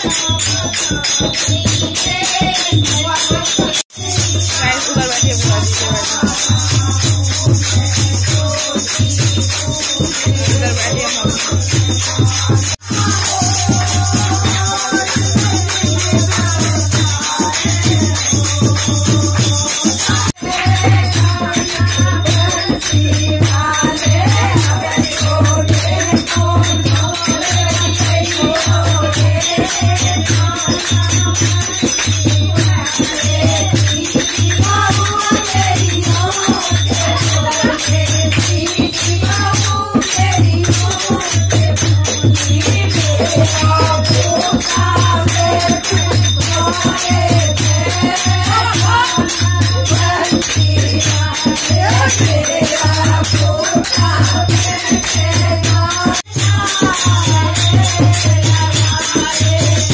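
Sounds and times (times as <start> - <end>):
jingling percussion: 0.0 - 59.9
people singing: 0.0 - 59.9.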